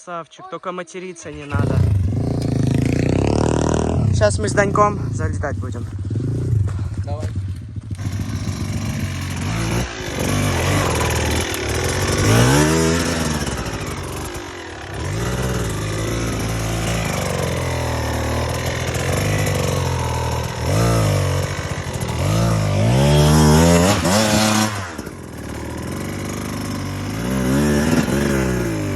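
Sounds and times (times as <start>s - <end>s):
dirt bike engine revving: 1.3s - 28.9s.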